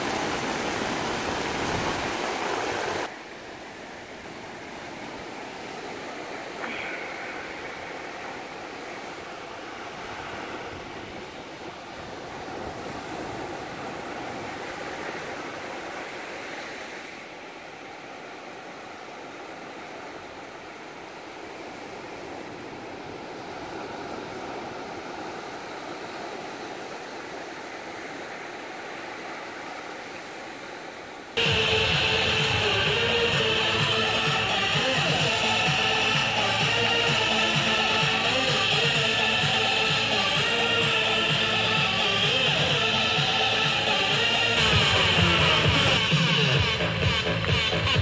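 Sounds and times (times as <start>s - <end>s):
surf washing up beach: 0.0s - 47.4s.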